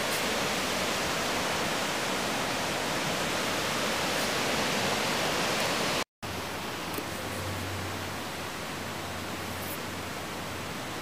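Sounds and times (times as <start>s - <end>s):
river rushing through rapids: 0.0s - 11.0s.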